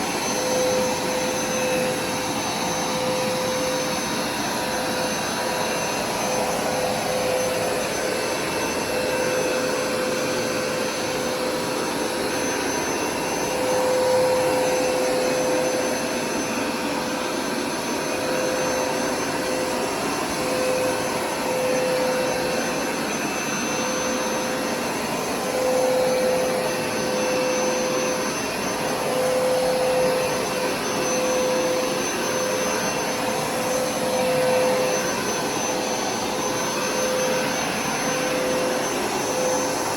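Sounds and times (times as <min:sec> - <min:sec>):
carpet cleaner motor whining: 0:00.0 - 0:39.9.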